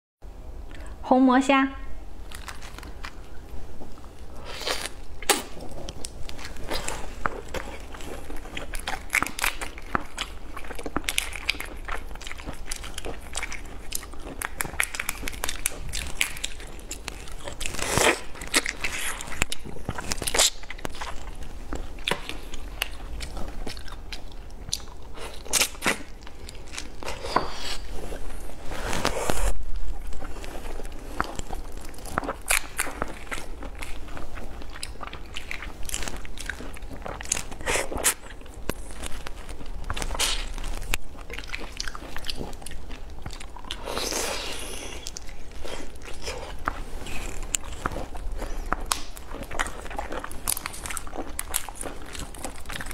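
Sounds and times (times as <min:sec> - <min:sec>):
chewing: 0:02.2 - 0:52.9.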